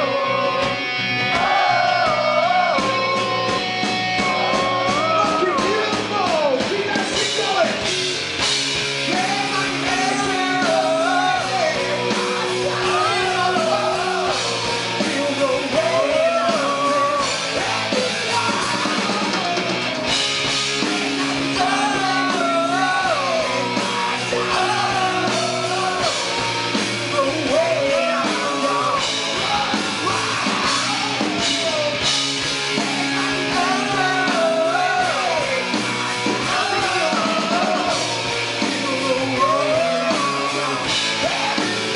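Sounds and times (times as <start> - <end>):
man singing: 0.0 - 0.8, 1.4 - 8.0, 9.0 - 19.7, 20.8 - 32.1, 32.7 - 41.9
rock band playing live: 0.0 - 41.9.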